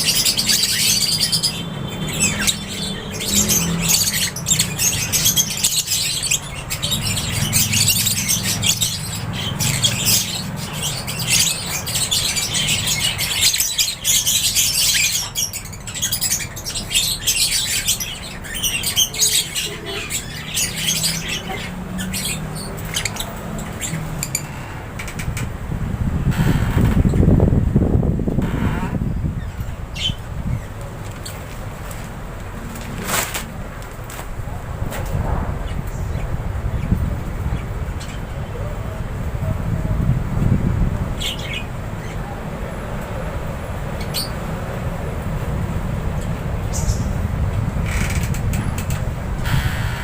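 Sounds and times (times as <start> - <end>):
birds chirping and squawking: 0.0 - 50.0.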